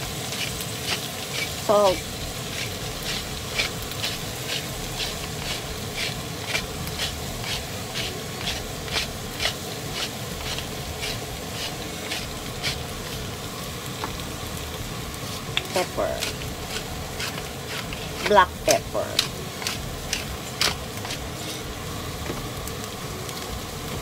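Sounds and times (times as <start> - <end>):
salt mill grinding rasp: 0.0 - 13.4, 15.2 - 21.7
food sizzling in a pan: 0.0 - 24.0.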